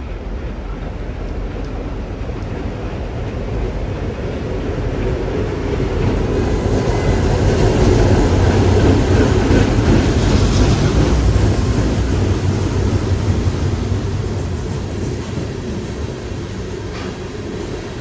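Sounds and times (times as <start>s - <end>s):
freight train wheels on rail: 0.0s - 18.0s.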